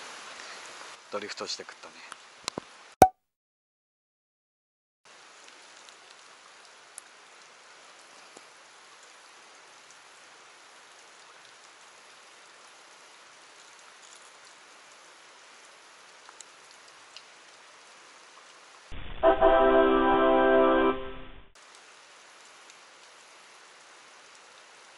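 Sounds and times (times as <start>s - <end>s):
light rain on river surface: 0.0s - 3.0s, 5.1s - 20.9s, 21.6s - 24.9s.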